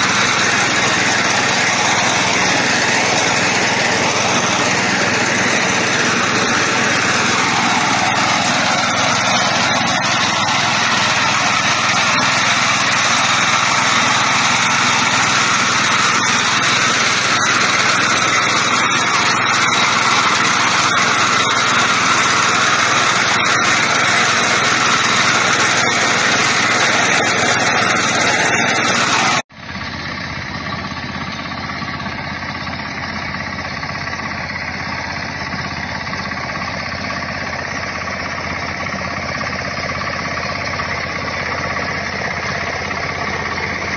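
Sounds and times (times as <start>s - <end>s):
quieter small engine: 0.0s - 43.9s
small engine running under load: 0.0s - 43.9s.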